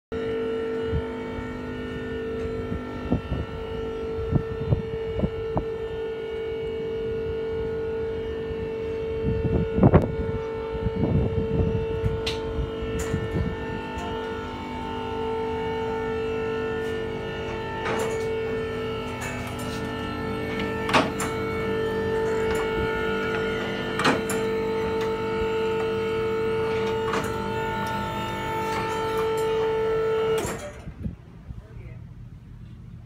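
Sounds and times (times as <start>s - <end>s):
car lift motor hum: 0.1s - 33.0s.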